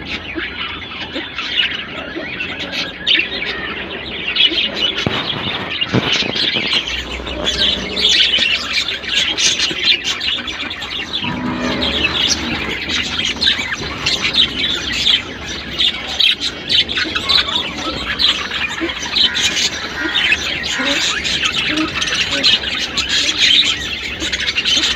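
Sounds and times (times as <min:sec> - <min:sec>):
budgerigars chirping and squawking: 0:00.0 - 0:24.9.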